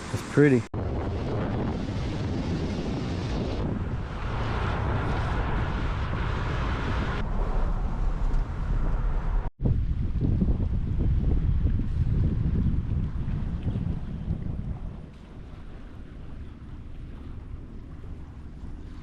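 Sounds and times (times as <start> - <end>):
wind buffeting microphone: 0.8 - 19.0.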